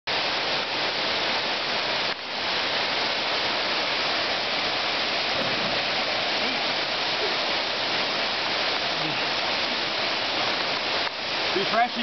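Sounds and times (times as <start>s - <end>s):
waterfall pouring into pool: 0.1s - 12.0s.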